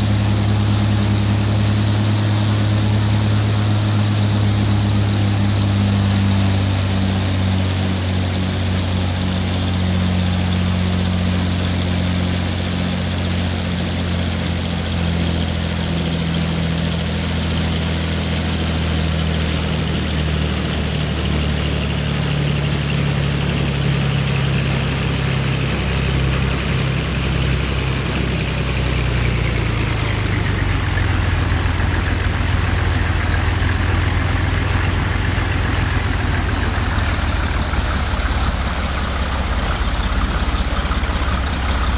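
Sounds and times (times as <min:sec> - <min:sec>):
wide rushing hiss: 0:00.0 - 0:37.6
propeller plane engine running: 0:00.0 - 0:41.9.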